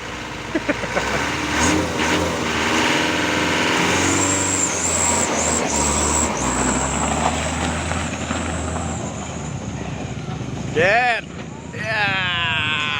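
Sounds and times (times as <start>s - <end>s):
vehicle engine revving: 0.0s - 11.7s.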